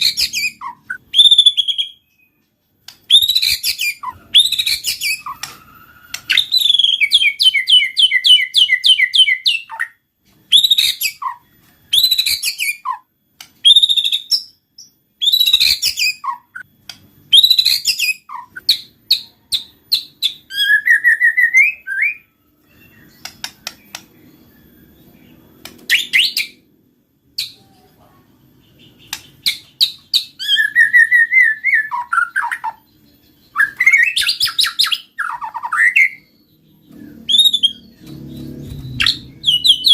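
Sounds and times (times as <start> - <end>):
bird singing whistled song: 0.0 - 26.7, 28.6 - 39.9.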